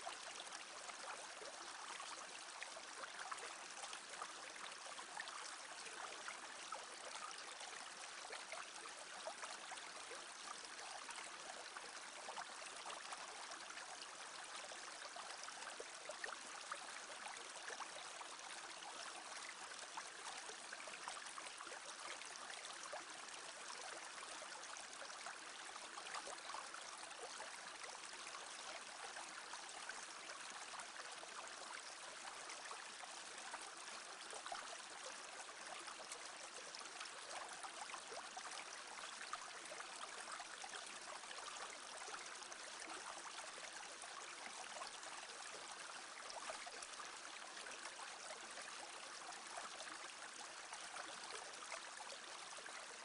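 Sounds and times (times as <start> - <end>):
brook babbling: 0.0 - 53.0.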